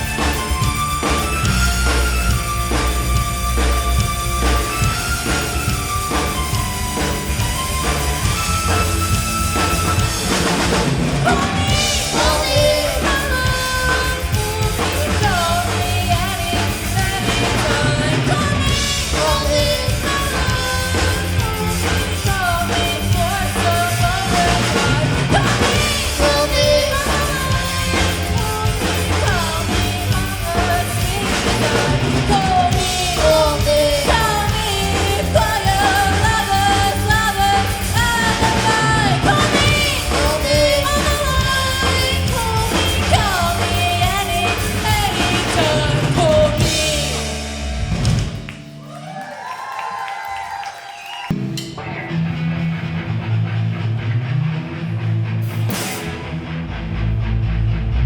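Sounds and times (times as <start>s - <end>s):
live rock band with singer: 0.0s - 58.0s.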